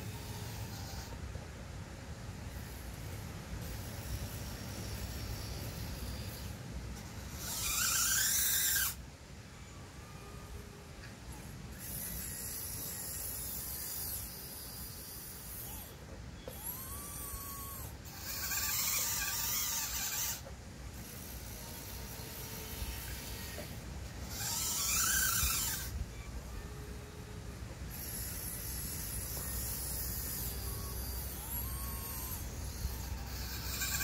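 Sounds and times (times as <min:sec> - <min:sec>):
small electric motors whining: 0:00.0 - 0:34.0.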